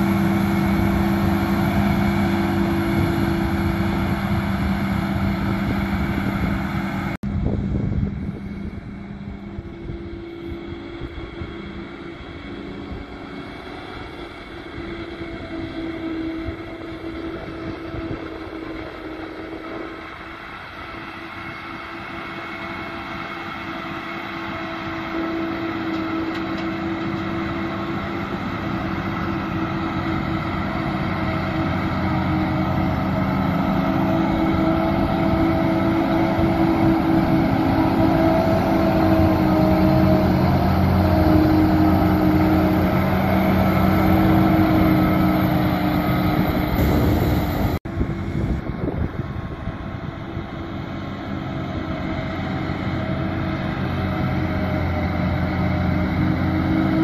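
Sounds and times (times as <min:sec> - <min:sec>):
tractor pulling trailer: 0:00.0 - 0:57.0.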